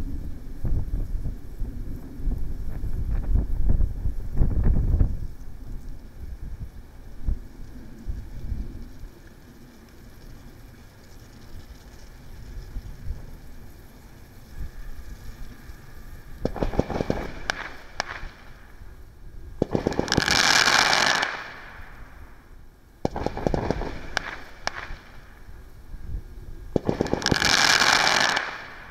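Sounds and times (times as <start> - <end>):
dense crackling hiss: 0.0 - 28.9
firework pops and crackles: 0.2 - 18.8, 19.6 - 25.5, 26.1 - 28.9.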